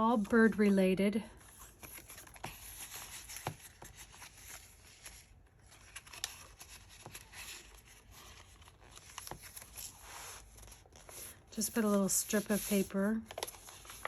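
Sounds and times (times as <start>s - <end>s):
paper rustling: 1.4s - 14.0s.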